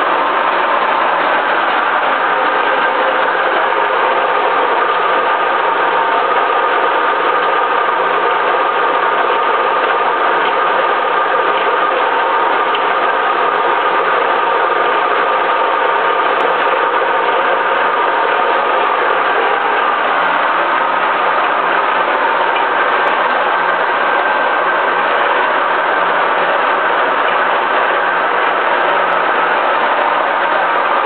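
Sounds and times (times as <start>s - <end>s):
metal lathe running: 0.0s - 31.0s
steady mechanical whine: 0.0s - 31.0s.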